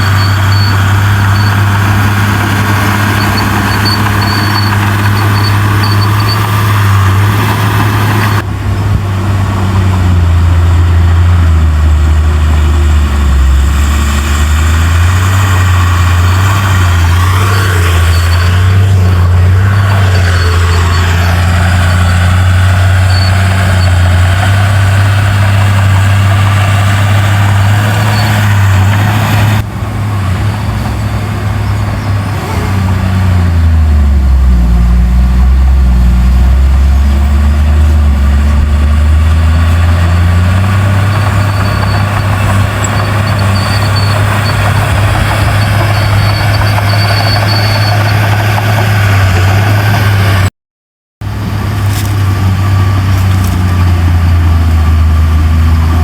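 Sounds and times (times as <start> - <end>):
heavy diesel engine running: 0.0 - 50.5, 51.2 - 56.0.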